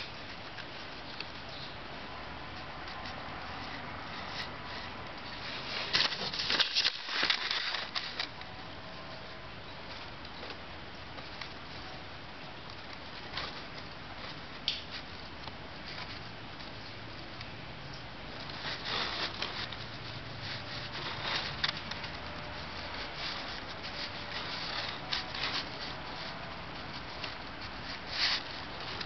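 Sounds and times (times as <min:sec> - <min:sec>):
soft handling rustles: 0:00.0 - 0:29.0.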